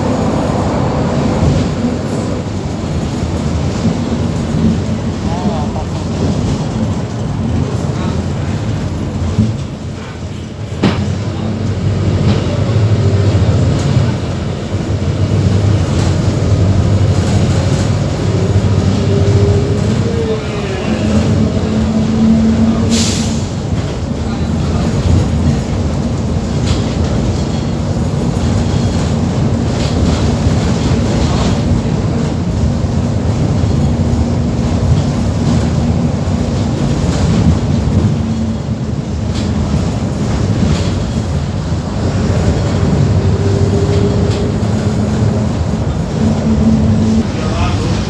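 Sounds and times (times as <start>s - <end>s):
bus diesel engine running: 0.0s - 48.0s.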